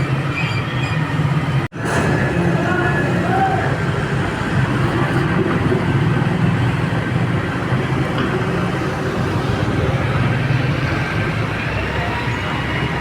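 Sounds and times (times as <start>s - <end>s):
heavy engine rumbling: 0.0s - 13.0s.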